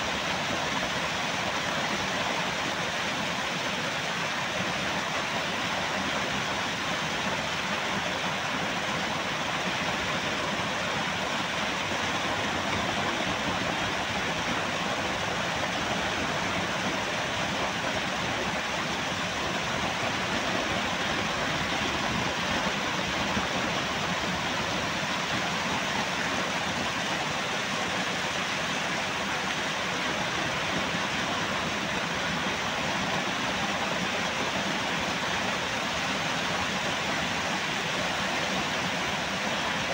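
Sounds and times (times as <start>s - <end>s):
waterfall pouring into pool: 0.0s - 39.9s.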